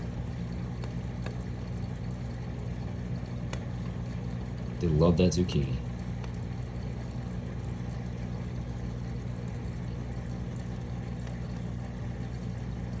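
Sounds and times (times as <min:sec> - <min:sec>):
aquarium filters humming: 0:00.0 - 0:13.0.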